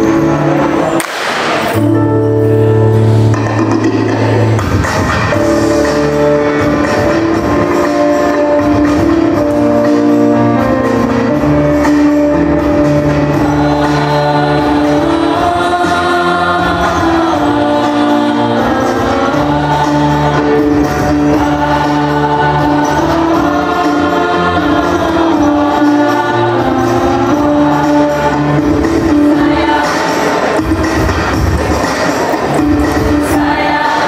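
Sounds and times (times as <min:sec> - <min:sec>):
mixed choir singing: 0:03.6 - 0:34.0.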